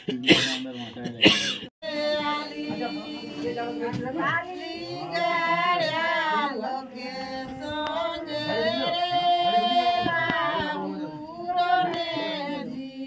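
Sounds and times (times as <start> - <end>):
women singing unaccompanied: 1.8 - 13.0.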